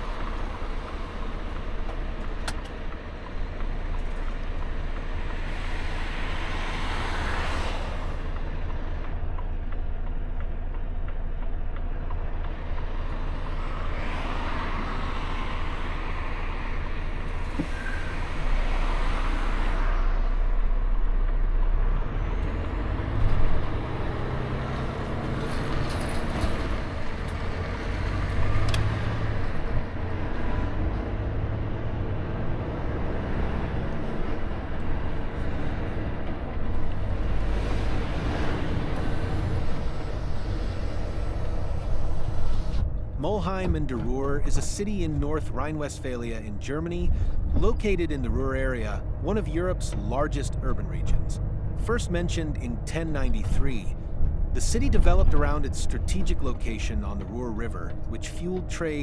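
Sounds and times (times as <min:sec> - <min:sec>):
truck diesel engine: 0:00.0 - 0:59.0
vehicles passing by: 0:00.0 - 0:59.0.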